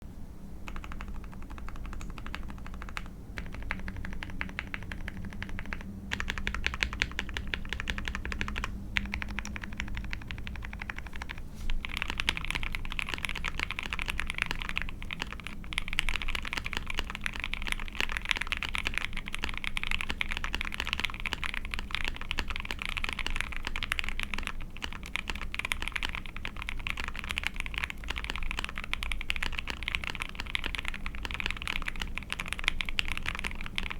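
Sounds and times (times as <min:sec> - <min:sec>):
typing on mechanical keyboard: 0:00.7 - 0:33.9.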